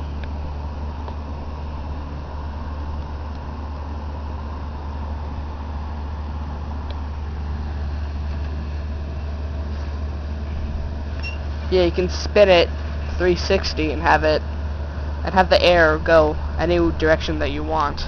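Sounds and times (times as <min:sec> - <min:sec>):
window air conditioner fan humming: 0:00.0 - 0:18.0.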